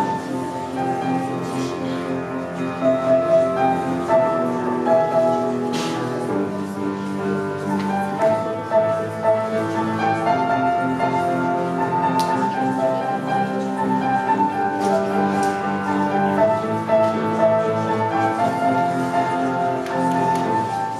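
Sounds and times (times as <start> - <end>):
solo piano melody: 0.0 - 20.9.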